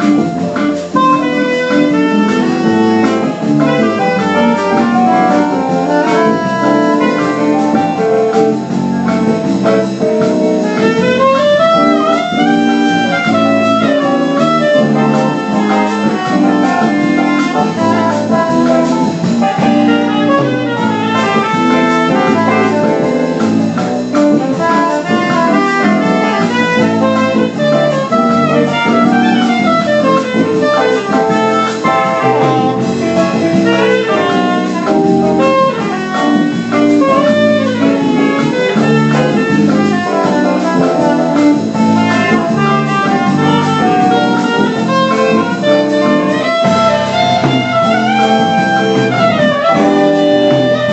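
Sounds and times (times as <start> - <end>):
jazz group playing: 0.0 - 50.9.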